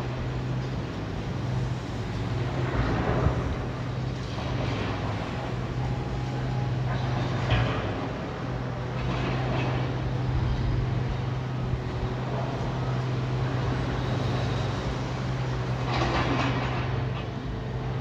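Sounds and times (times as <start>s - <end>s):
heavy machine engine droning: 0.0s - 18.0s.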